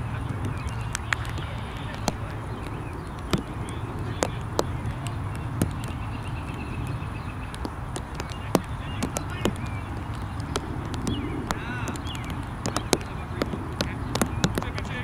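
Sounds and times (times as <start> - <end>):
birds calling: 0.0 - 15.0
sharp clicks: 0.0 - 15.0
steady low rumble: 0.0 - 15.0.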